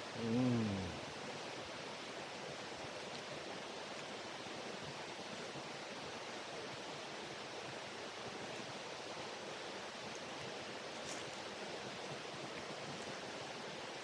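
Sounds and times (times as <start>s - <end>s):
stream running water: 0.0s - 14.0s.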